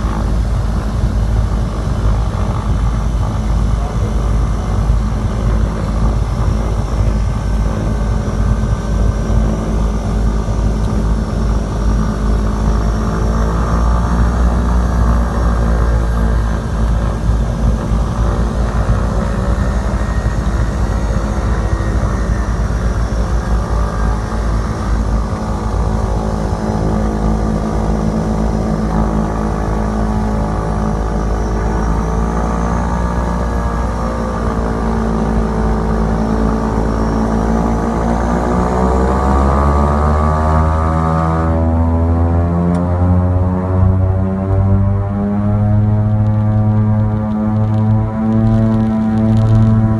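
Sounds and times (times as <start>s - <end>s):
propeller airliner cabin drone: 0.0s - 49.9s.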